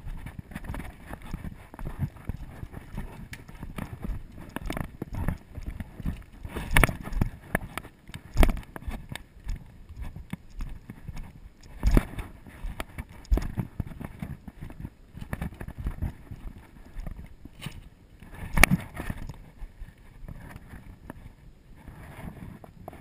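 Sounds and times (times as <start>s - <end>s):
footsteps on dirt trail: 0.0s - 21.2s
rustling: 0.0s - 23.0s.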